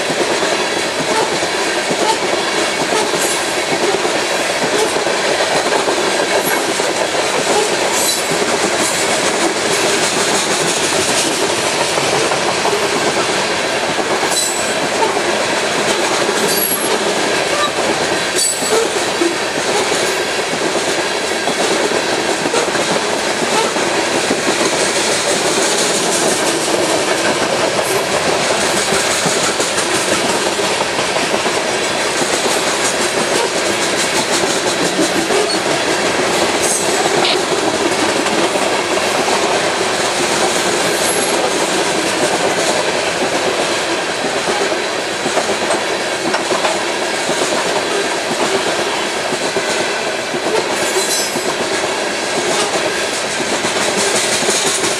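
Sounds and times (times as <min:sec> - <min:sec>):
train wheels rumbling on rail: 0:00.0 - 0:54.9
wheels clicking over rail joints: 0:00.0 - 0:54.9.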